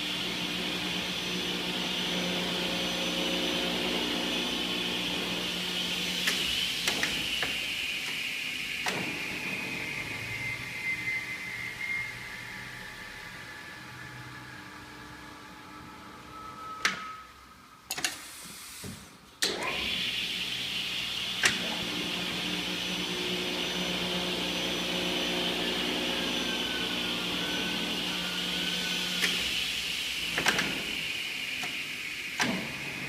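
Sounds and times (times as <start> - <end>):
panel saw motor whine: 0.0 - 17.2, 19.6 - 33.0.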